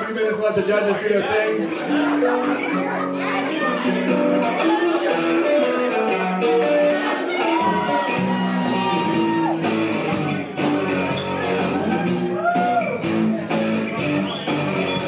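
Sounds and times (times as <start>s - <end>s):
rock music with guitar: 1.7s - 15.0s.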